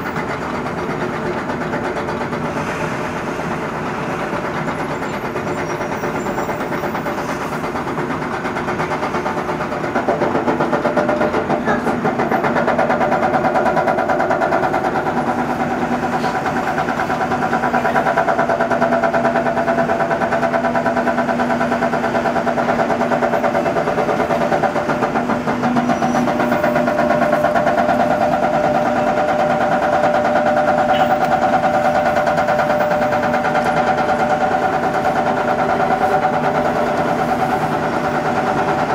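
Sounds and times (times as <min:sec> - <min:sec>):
excavator diesel engine digging: 0:00.0 - 0:38.9
steady machine whine: 0:00.0 - 0:38.9.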